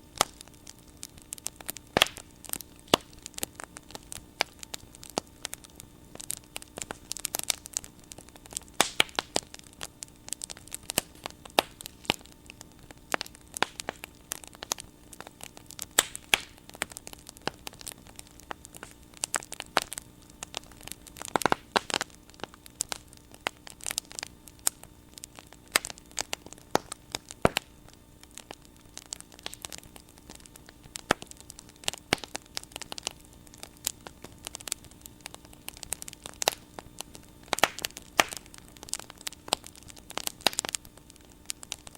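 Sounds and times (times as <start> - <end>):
bonfire crackling: 0.0 - 41.9
steady low hum: 0.0 - 41.9.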